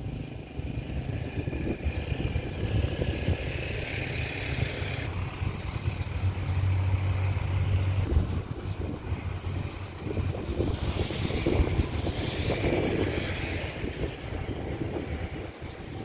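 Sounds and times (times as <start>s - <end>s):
locomotive engine drone: 0.0s - 16.0s.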